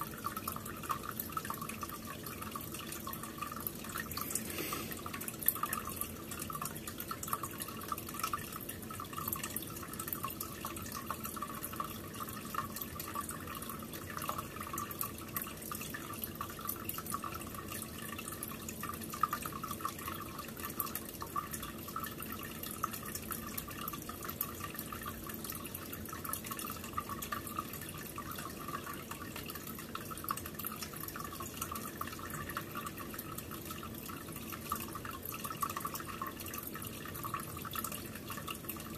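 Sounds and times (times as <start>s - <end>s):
aquarium water trickling and bubbling: 0.0s - 38.9s.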